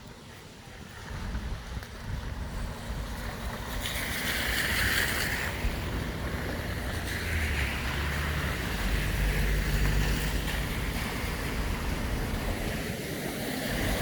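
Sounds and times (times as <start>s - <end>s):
tyres spraying floodwater: 0.0s - 14.0s.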